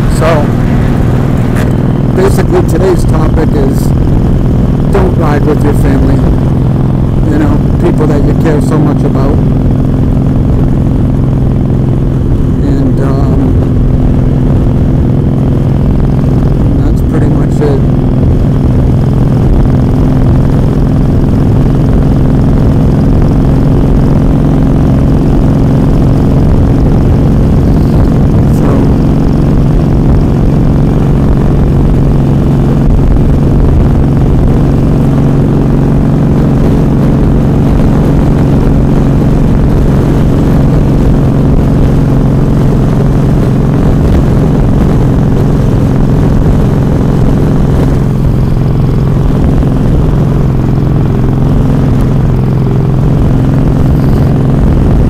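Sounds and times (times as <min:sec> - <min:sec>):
wind rush: 0:00.0 - 0:05.3, 0:09.4 - 0:55.0
motorcycle engine running: 0:00.0 - 0:55.0
road noise: 0:00.0 - 0:55.0.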